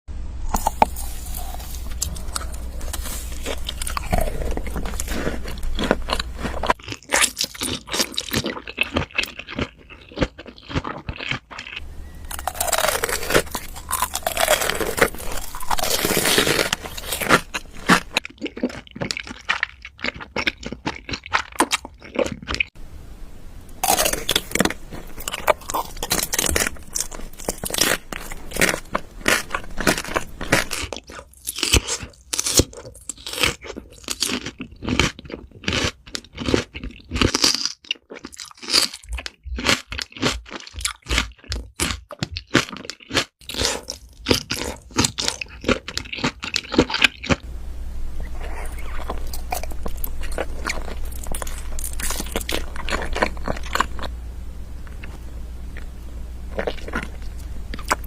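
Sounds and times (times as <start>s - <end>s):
food crunching while chewed: 0.5s - 22.8s, 23.8s - 47.4s, 48.3s - 54.2s, 54.8s - 55.9s, 56.5s - 58.0s.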